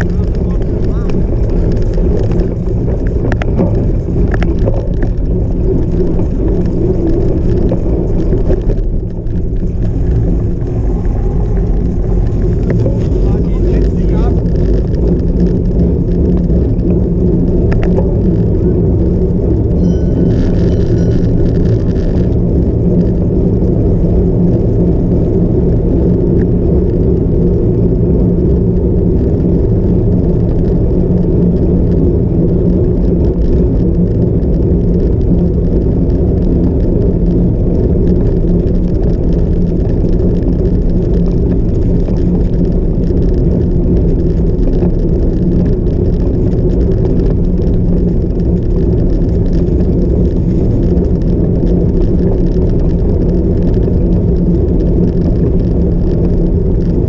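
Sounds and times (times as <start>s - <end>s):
bike rumbling off-road: 0.0s - 57.0s.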